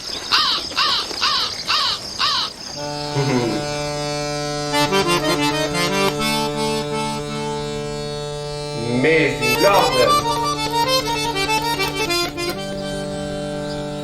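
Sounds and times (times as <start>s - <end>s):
bird chirping: 2.5s - 14.0s
reed instrument folk tune: 2.8s - 14.0s.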